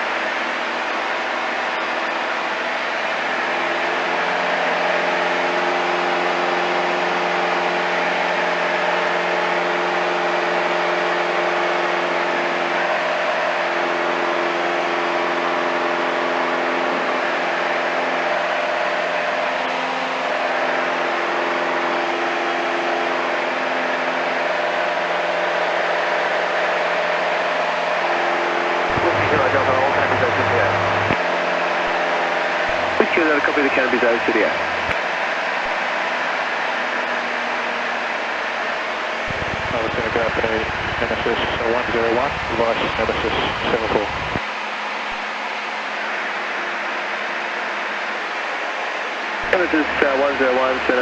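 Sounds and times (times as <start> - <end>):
light aircraft engine and propeller drone: 0.0 - 51.0.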